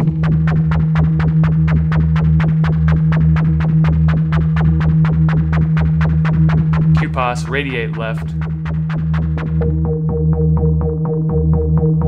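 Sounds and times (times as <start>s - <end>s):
synthesizer low drone: 0.0s - 12.0s.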